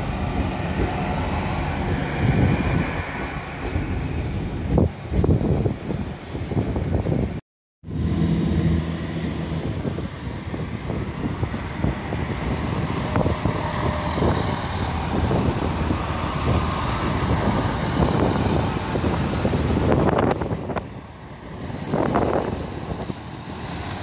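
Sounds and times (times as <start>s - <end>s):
train engine hum: 0.0s - 24.0s.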